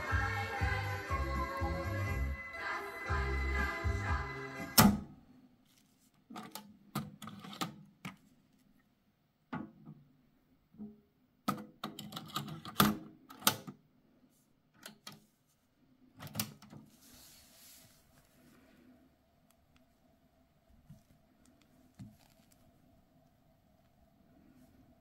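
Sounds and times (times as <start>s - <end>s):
faint tape hiss: 0.0s - 11.5s, 12.4s - 25.0s.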